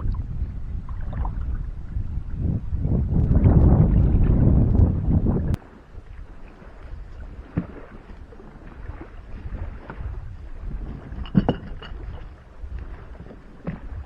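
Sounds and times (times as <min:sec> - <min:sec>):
open water sound: 0:00.0 - 0:14.0
wind rumbling on microphone: 0:00.0 - 0:14.0.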